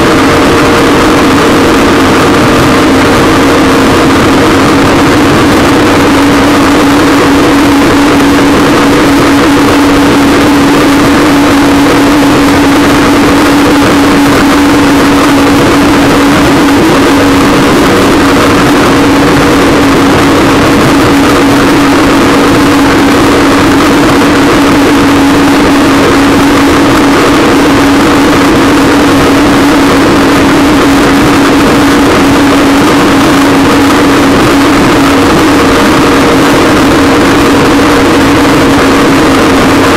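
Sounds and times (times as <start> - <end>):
water rushing along hull: 0.0 - 39.9
watercraft engine hum: 0.0 - 39.9.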